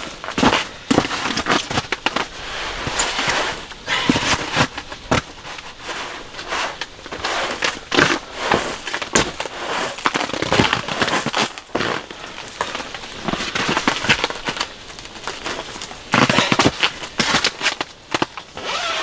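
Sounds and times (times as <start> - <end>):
crackling and crinkling: 0.0 - 19.0.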